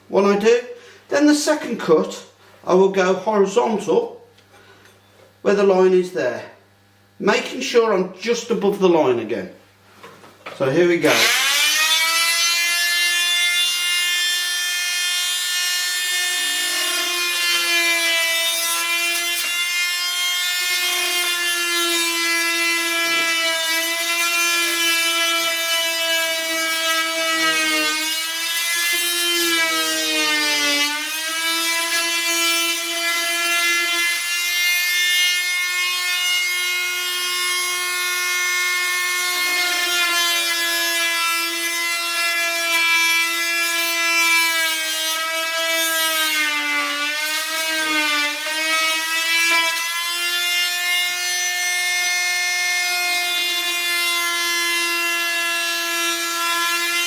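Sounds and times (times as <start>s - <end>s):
oscillating multi-tool cutting wood: 11.0s - 57.0s.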